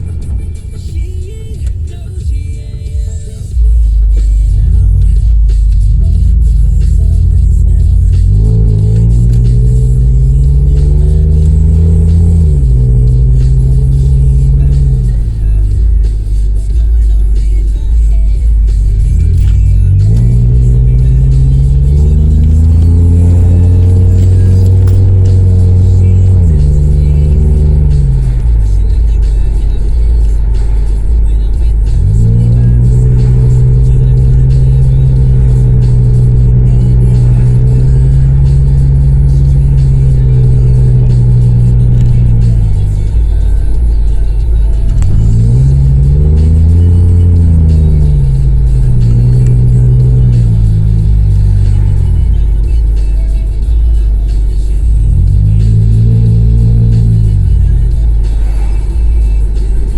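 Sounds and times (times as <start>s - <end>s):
car engine droning loudly: 0.0s - 59.9s.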